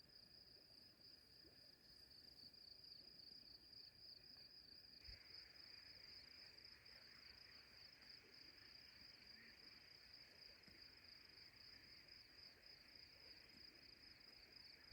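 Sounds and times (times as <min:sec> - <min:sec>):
faint insect chorus trilling: 0:00.0 - 0:14.9.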